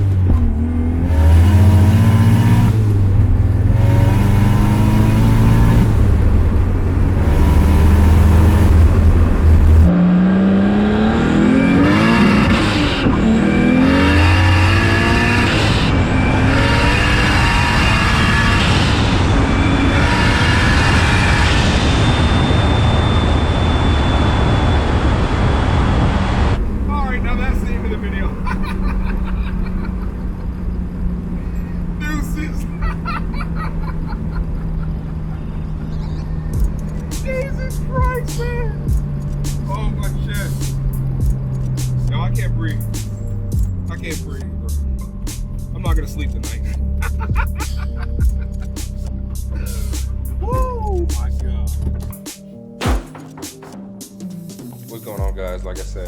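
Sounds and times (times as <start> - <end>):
car engine accelerating hard: 0.0 - 50.5.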